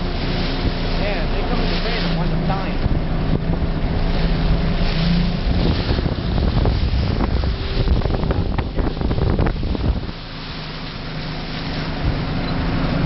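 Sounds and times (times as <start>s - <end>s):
motorboat engine humming: 0.0s - 13.0s
wind buffeting microphone: 0.0s - 13.0s.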